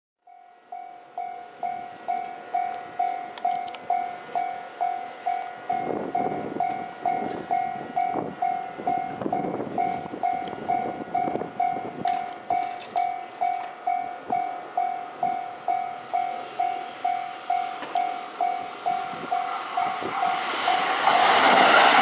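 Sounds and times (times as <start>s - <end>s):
level crossing warning bell ringing: 0.2s - 20.9s
electric train rumbling on rails: 0.2s - 22.0s.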